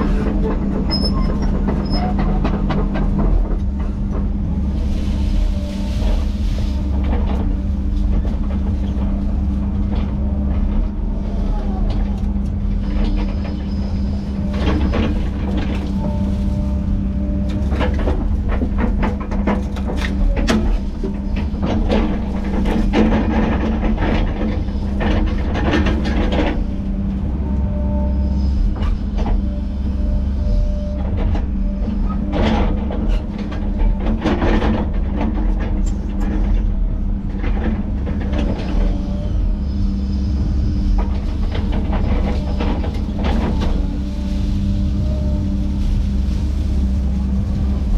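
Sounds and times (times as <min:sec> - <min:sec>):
heavy diesel machinery running: 0:00.0 - 0:47.9.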